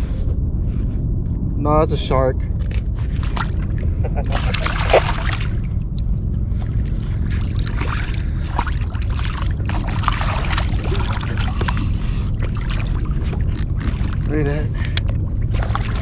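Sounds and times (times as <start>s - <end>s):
wind rumbling on microphone: 0.0s - 16.0s
water lapping against kayak: 2.6s - 16.0s.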